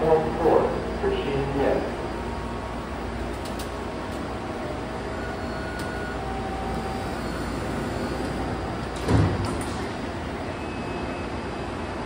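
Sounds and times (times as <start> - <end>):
train humming at platform: 0.0 - 12.0.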